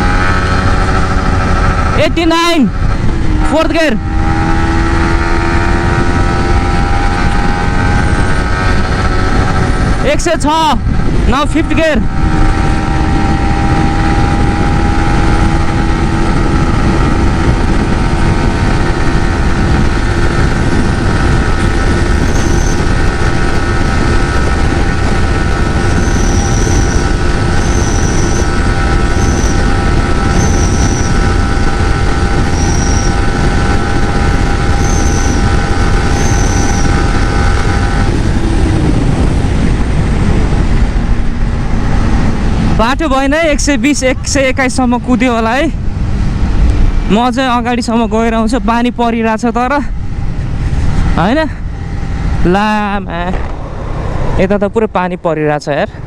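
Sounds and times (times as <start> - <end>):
motorcycle engine at high revs: 0.0 - 55.0
wind rush on microphone: 0.0 - 56.0.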